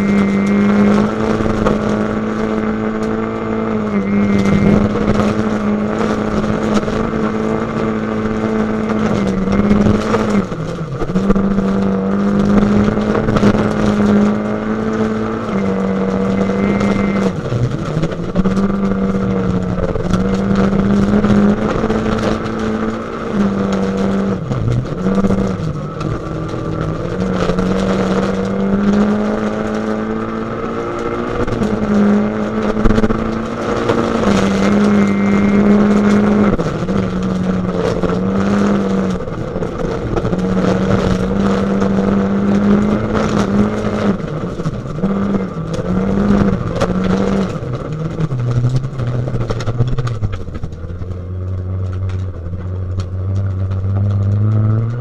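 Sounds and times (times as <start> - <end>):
gravel clattering against car: 0.0 - 55.0
rally car engine at high revs: 0.0 - 55.0.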